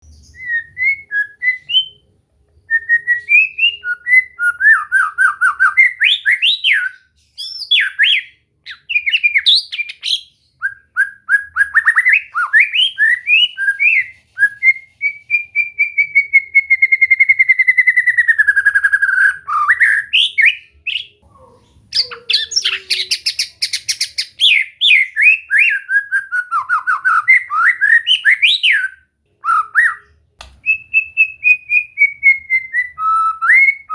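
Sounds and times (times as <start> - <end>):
bird singing whistles and trills: 0.0 - 33.9.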